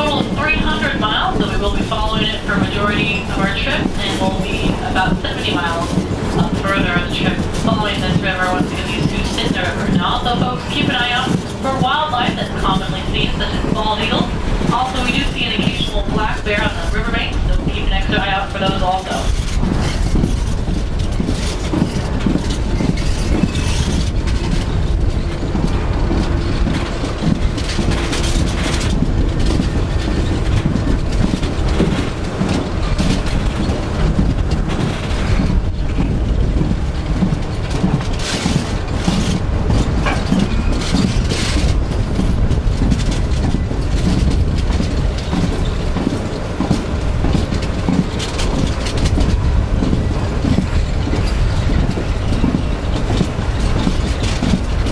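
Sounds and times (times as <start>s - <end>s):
train rumble: 0.0s - 54.9s
train wheels clacking on rails: 0.0s - 54.9s.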